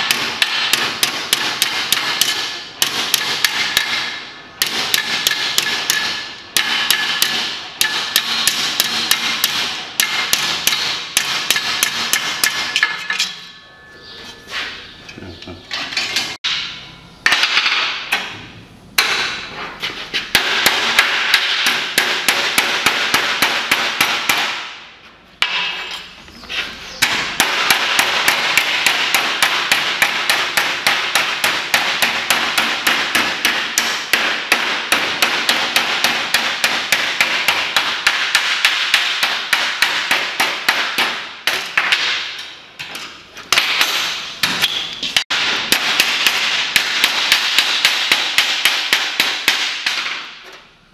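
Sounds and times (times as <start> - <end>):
hammer striking sheet steel: 0.0 - 14.8, 15.7 - 26.1, 26.9 - 50.7.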